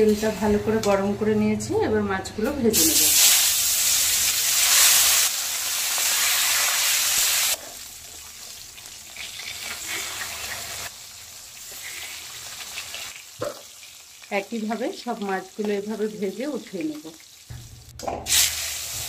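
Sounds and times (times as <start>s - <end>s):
fish sizzling in hot oil: 2.9s - 19.0s.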